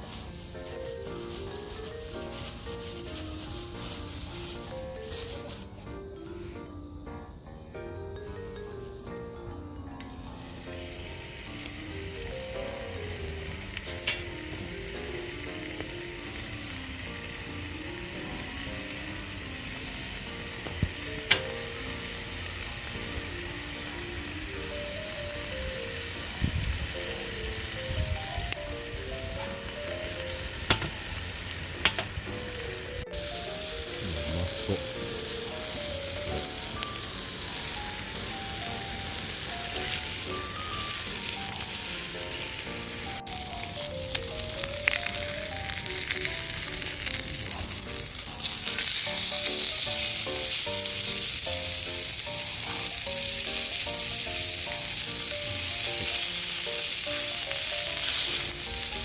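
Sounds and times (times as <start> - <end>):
food sizzling in a pan: 0.0 - 6.7, 9.8 - 59.0
background music with simple melody: 0.0 - 59.0.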